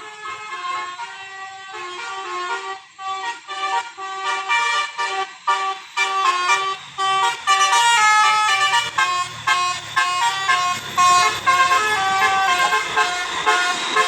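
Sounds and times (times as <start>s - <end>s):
multi-tone bus horn melody: 0.0s - 14.0s.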